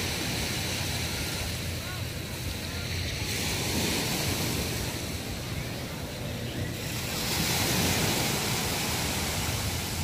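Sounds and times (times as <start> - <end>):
waves breaking on a beach: 0.0 - 10.0
wind rumbling on microphone: 0.0 - 10.0.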